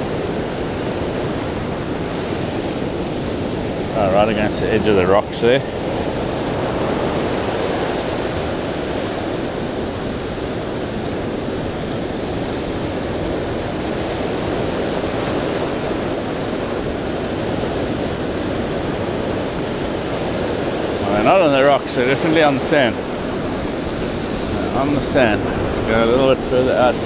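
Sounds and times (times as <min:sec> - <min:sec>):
ocean surf rushing: 0:00.0 - 0:27.0.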